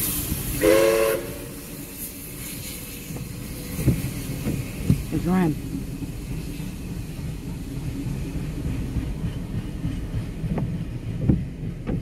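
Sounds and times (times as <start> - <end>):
train carriages rumbling past: 0.0 - 12.0.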